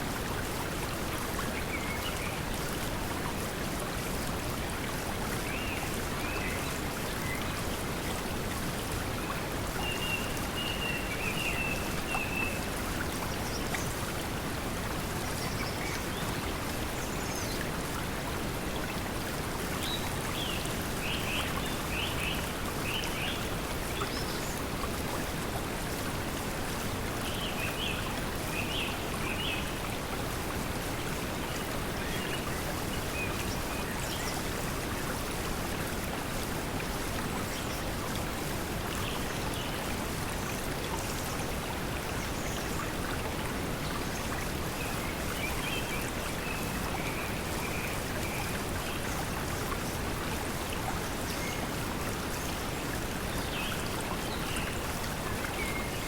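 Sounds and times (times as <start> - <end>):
flowing water: 0.0 - 56.0.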